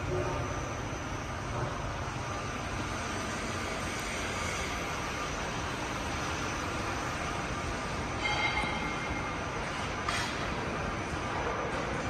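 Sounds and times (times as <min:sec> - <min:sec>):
factory machinery rushing noise: 0:00.0 - 0:12.0.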